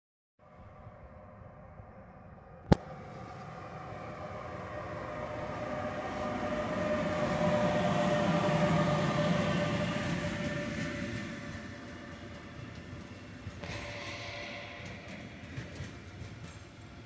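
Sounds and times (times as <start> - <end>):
electric locomotive rumble and whine: 1.1 - 17.0.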